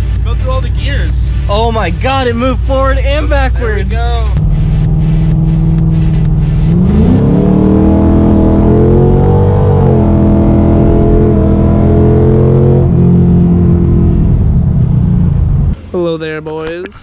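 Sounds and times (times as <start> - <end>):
car engine accelerating: 0.0 - 15.9.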